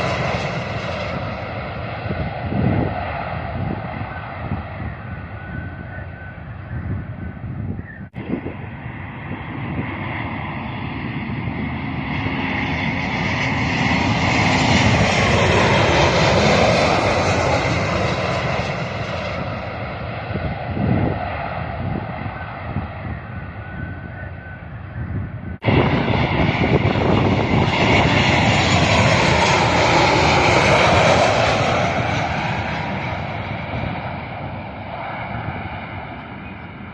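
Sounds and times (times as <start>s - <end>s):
passenger jet engine roar: 0.0s - 36.9s.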